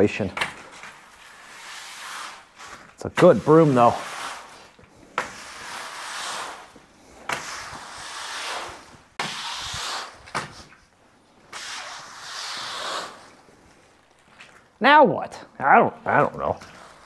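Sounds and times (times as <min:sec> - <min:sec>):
push broom sweeping concrete: 0:00.0 - 0:10.8, 0:11.4 - 0:14.5, 0:16.1 - 0:17.0.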